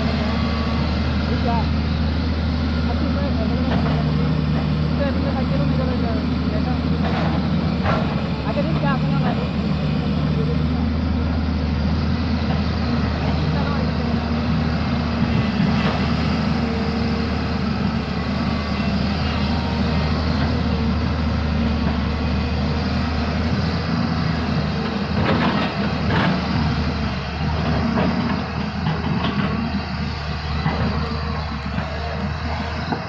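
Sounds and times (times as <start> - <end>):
heavy machine diesel engine: 0.0 - 33.0.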